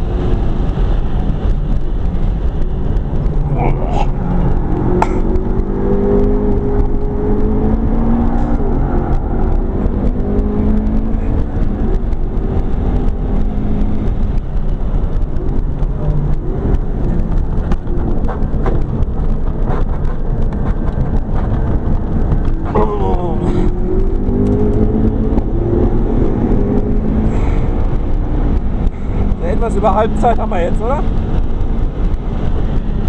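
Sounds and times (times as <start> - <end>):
car engine under load: 0.0 - 33.0
road and tyre rumble: 0.0 - 33.0.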